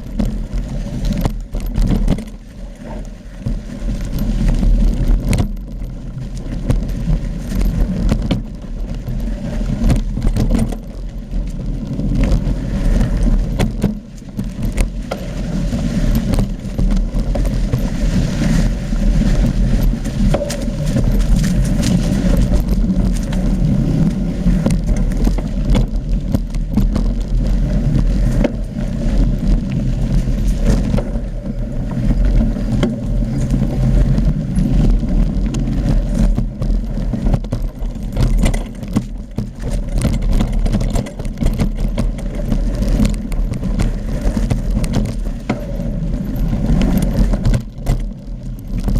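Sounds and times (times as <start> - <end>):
bike knocks and rattles: 0.0 - 48.9
wind rumbling on microphone: 0.0 - 48.9.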